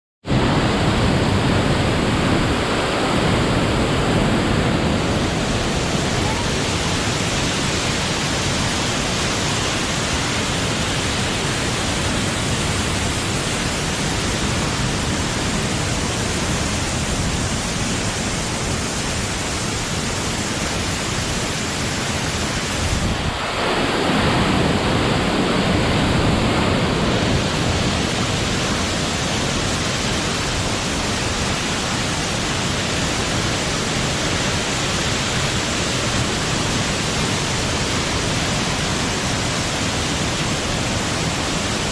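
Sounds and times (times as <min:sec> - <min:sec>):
waterfall rushing: 0:00.3 - 0:41.9.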